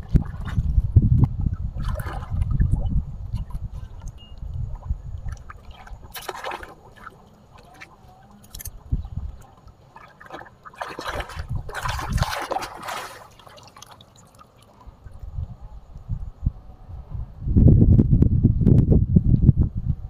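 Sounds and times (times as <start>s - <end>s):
water splashing and sloshing: 0.0s - 16.1s.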